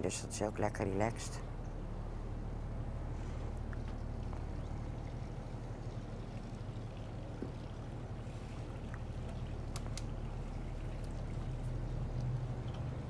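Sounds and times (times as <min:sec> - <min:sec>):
boat engine humming: 0:00.0 - 0:13.0
water around hull: 0:00.2 - 0:13.0.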